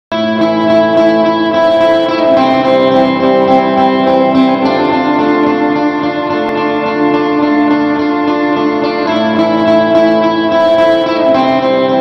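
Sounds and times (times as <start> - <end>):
instrumental music with held chords: 0.1 - 12.0.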